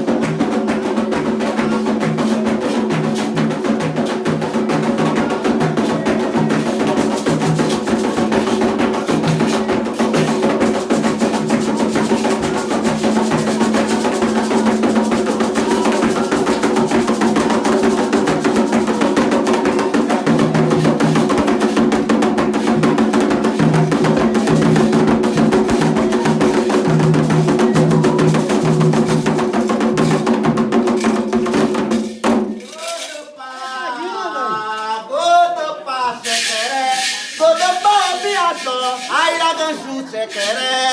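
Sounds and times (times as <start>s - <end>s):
fast ceremonial drumming: 0.0s - 33.1s, 36.3s - 40.9s.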